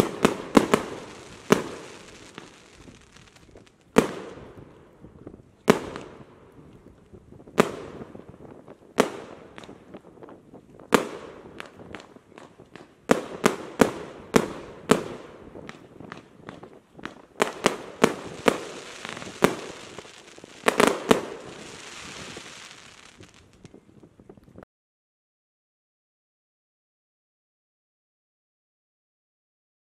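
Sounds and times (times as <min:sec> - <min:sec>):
fireworks crackling hiss: 0:00.0 - 0:24.2.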